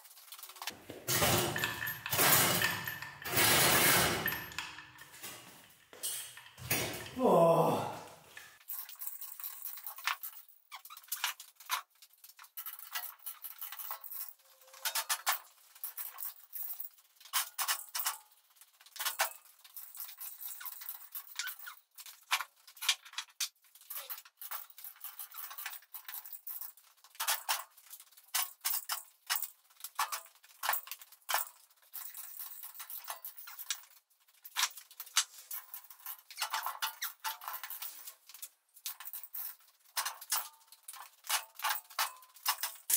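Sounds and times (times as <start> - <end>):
chain hoist clicking and rattling: 0.0 - 7.2, 8.6 - 42.9.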